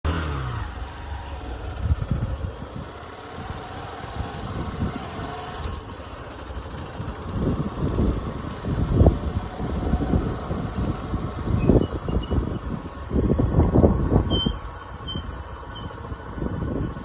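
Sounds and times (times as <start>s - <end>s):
wind buffeting microphone: 1.6s - 5.9s, 6.5s - 17.0s.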